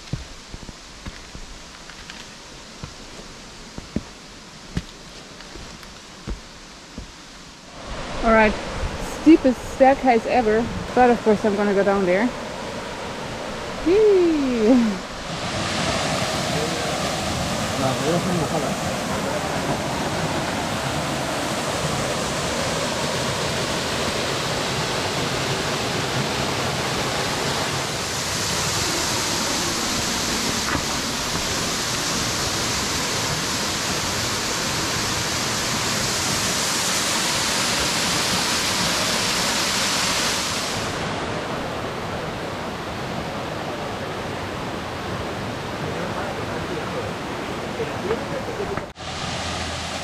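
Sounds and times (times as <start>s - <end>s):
stream splashing over rocks: 0.0s - 43.5s, 45.4s - 50.0s
waterfall rushing: 5.6s - 50.0s.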